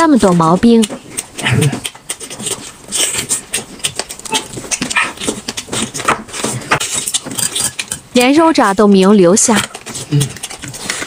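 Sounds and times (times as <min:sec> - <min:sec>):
dog chewing: 0:00.1 - 0:08.2, 0:09.5 - 0:11.0.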